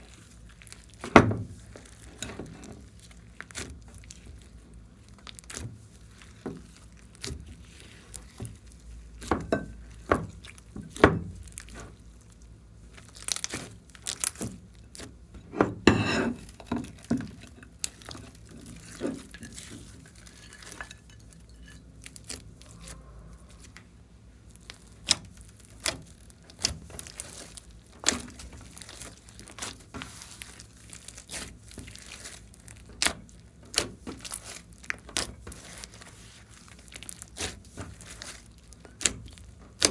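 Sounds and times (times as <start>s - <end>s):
slime squelching and snapping: 0.0s - 15.3s, 16.4s - 23.8s, 24.4s - 39.9s.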